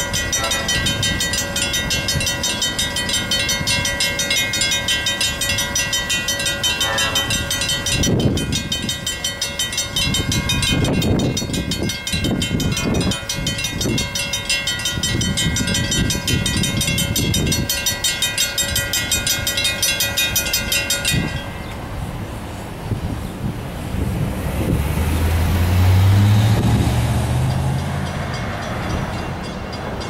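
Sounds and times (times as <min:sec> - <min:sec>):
railroad crossing bell ringing: 0:00.0 - 0:22.8, 0:25.8 - 0:30.0
diesel locomotive passing: 0:00.0 - 0:30.0
road traffic noise: 0:00.0 - 0:30.0.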